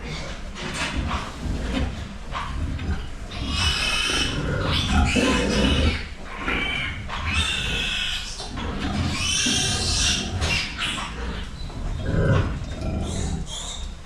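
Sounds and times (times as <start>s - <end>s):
pigs squealing: 0.0s - 14.0s.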